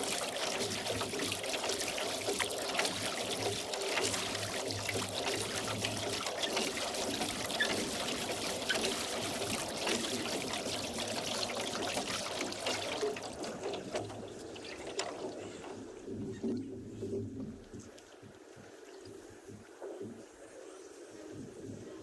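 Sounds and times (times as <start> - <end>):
water drips: 0.0 - 20.2
water splashing around rowboat: 0.0 - 22.0.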